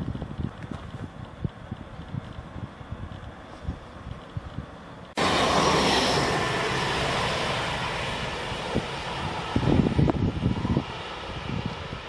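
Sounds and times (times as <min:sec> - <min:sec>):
diesel railcar engine: 0:00.0 - 0:12.0.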